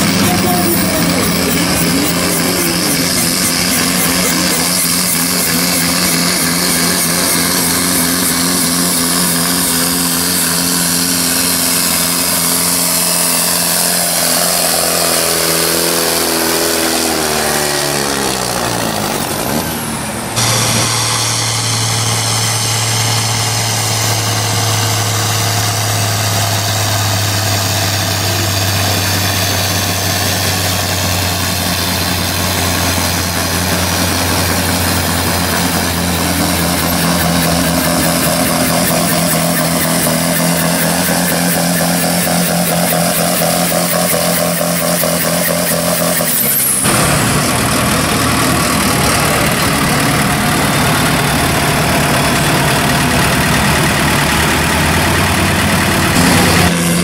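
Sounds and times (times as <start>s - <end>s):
diesel tractor engine at full throttle: 0.0s - 57.0s
tractor engine at high revs: 0.0s - 57.0s.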